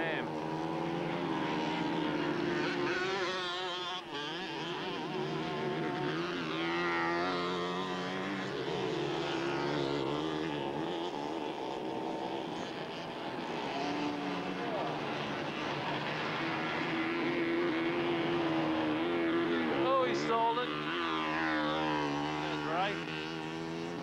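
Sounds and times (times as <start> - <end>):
dirt bike engines racing: 0.0 - 24.0.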